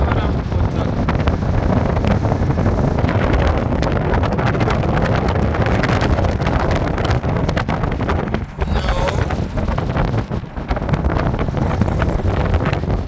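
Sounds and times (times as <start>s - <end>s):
moving vehicle rumble: 0.0s - 13.0s
wind buffeting microphone: 0.0s - 13.0s.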